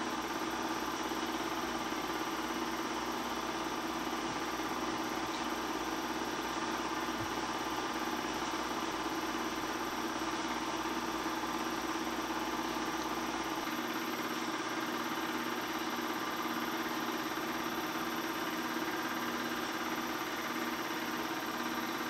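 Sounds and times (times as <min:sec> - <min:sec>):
film projector whirring: 0:00.0 - 0:22.0.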